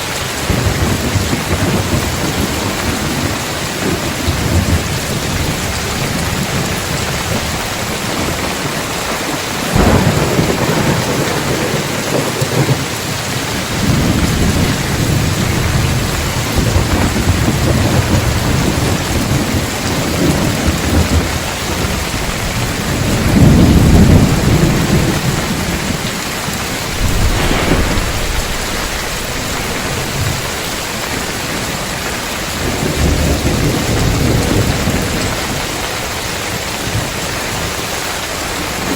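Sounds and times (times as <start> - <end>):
thunder cracking and rumbling: 0.0 - 35.8
heavy rain on roof tiles: 0.0 - 38.9.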